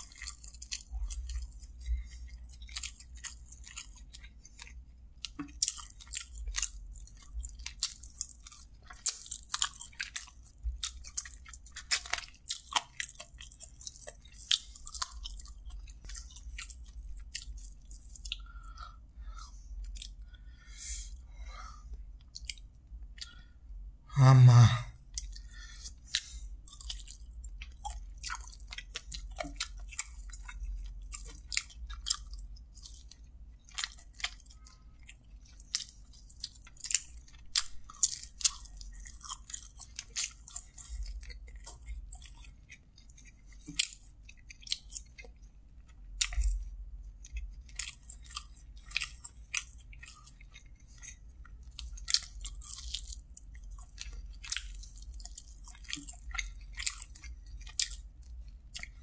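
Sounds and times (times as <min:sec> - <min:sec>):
person chewing and biting: 0:00.0 - 0:23.6, 0:24.2 - 0:59.0.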